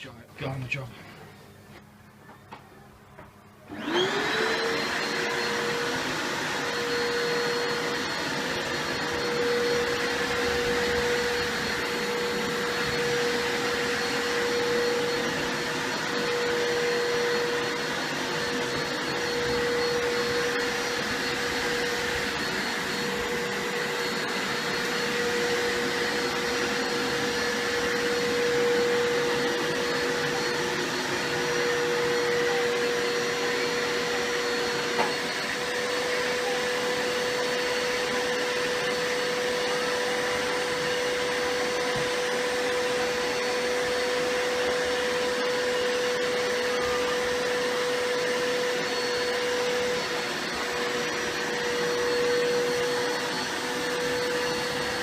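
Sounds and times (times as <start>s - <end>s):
carpet cleaner motor whine: 1.0s - 55.0s.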